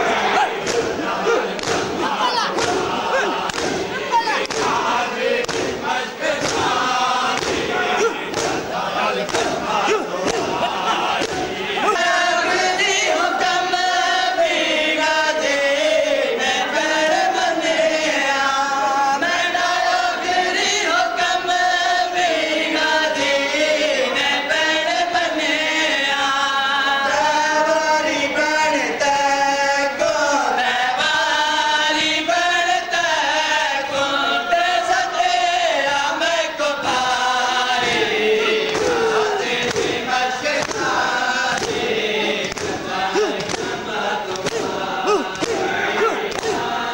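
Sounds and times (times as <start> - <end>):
men chanting in chorus: 0.0 - 46.9
rhythmic chest-beating: 0.0 - 46.9.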